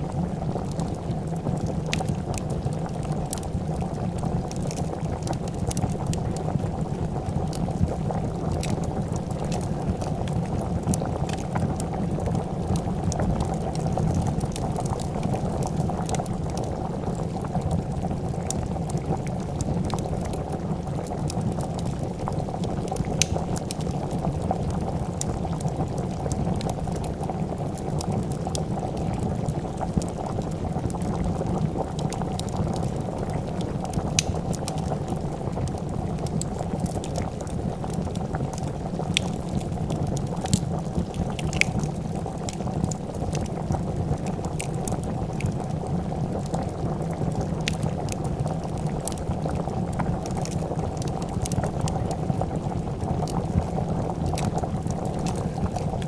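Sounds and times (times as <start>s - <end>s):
soup bubbling in pot: 0.0s - 56.0s
wood fire crackling: 0.0s - 56.0s.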